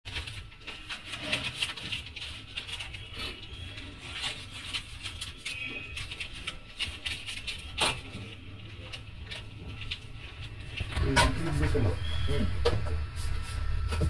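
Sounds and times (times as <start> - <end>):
sweets packing rustling: 0.1 - 12.2.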